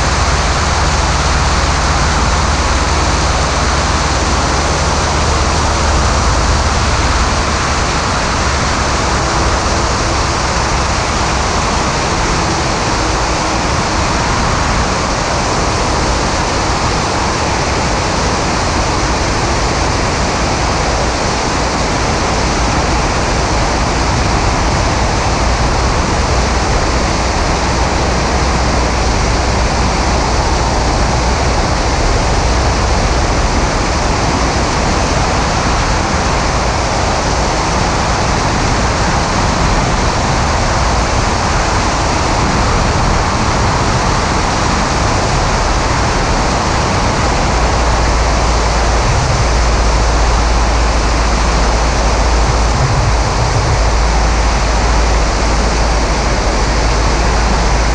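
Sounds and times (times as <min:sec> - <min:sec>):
aircraft engine and propeller: 0:00.0 - 0:57.9
wind buffeting microphone: 0:00.0 - 0:57.9.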